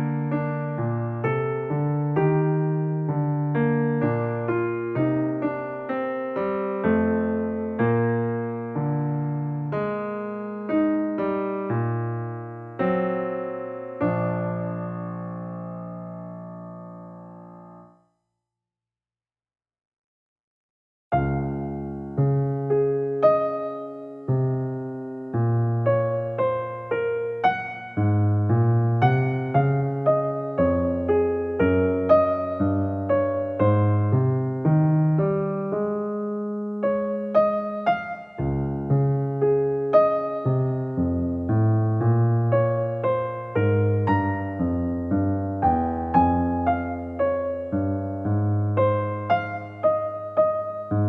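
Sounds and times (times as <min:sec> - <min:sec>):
gentle electric piano melody: 0:00.0 - 0:17.9, 0:21.1 - 0:51.0.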